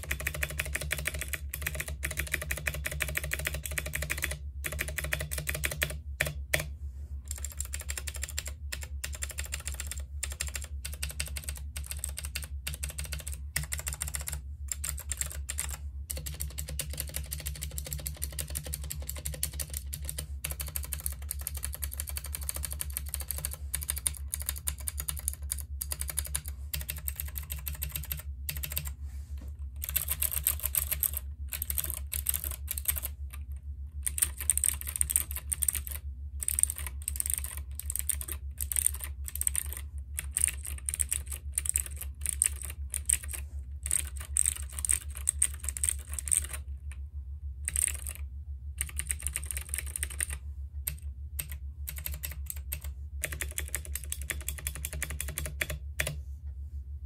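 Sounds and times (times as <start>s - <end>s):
clicky mechanical keyboard typing: 0.0s - 6.7s, 7.3s - 28.9s, 29.8s - 47.0s, 47.6s - 48.2s, 48.8s - 56.2s.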